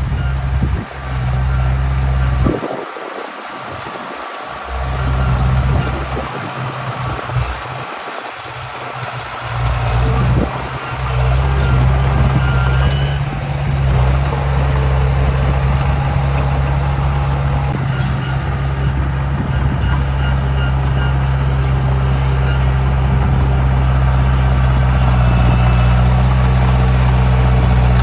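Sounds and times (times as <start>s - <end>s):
diesel machinery engine running: 0.0s - 28.0s.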